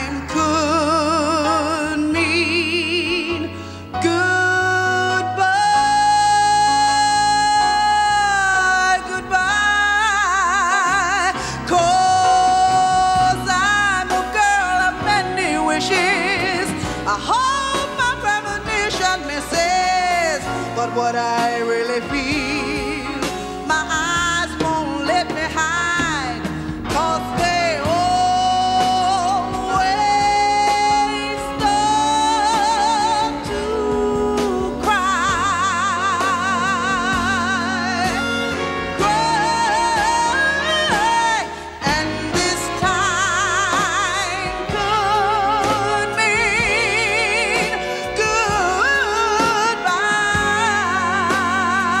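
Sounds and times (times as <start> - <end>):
band backing: 0.0 - 52.0
woman singing with vibrato: 0.0 - 52.0.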